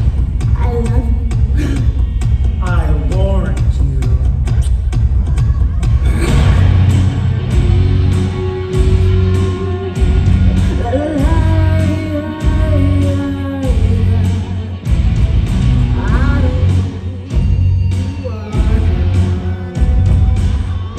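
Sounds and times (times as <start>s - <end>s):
loud rock music with singer: 0.0s - 20.9s.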